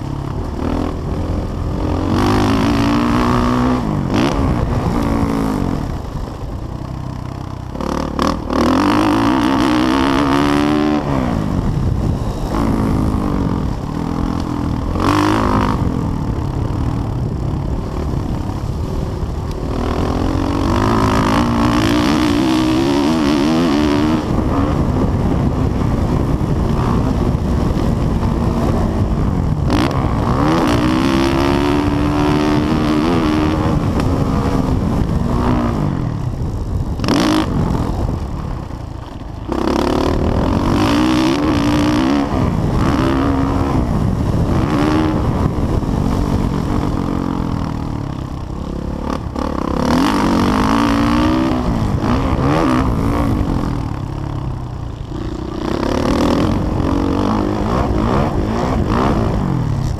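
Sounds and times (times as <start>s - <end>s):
dirt bike engine revving: 0.0s - 59.9s
wind rush: 0.0s - 59.9s.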